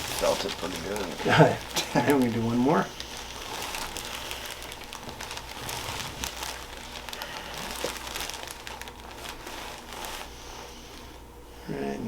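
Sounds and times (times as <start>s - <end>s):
clothing and table rustling: 0.0s - 11.2s.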